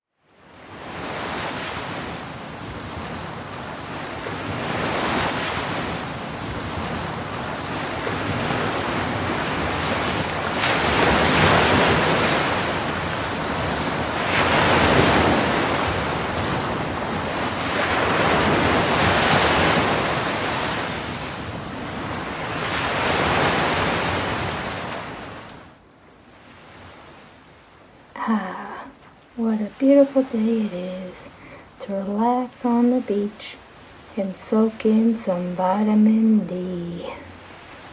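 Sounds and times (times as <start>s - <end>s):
ocean waves washing: 0.3s - 37.9s.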